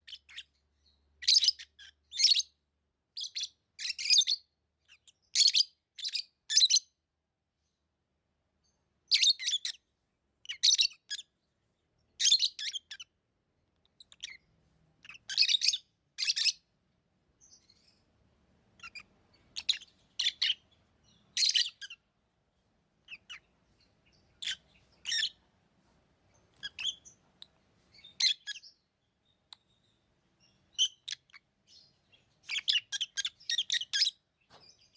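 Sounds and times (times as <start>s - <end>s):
lovebirds chirping: 0.0s - 7.0s, 8.6s - 34.9s.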